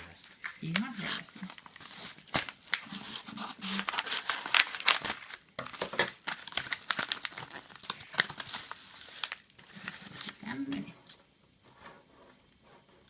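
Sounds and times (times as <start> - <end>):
parcel wrapping crinkling and tearing: 0.0 - 10.9.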